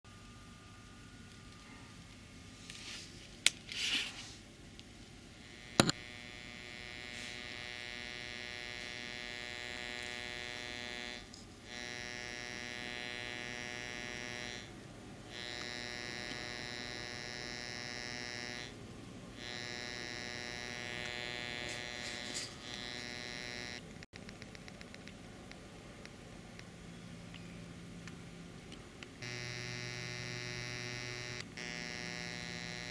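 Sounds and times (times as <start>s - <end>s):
steady buzz from exhaust pipe: 0.1s - 24.1s, 25.7s - 32.9s.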